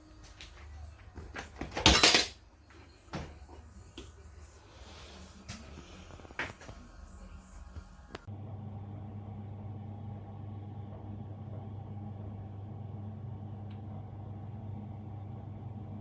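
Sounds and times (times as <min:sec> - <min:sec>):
dishwasher humming: 0:00.0 - 0:16.0.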